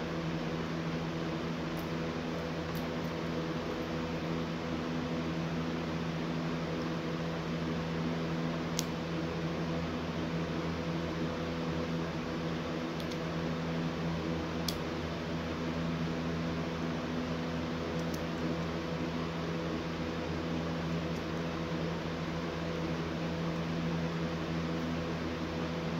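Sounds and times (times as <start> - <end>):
steady mechanical hum: 0.0 - 25.9.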